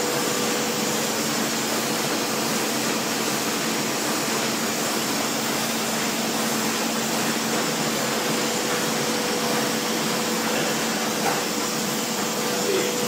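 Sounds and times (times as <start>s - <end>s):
laminating machine running: 0.0s - 13.0s.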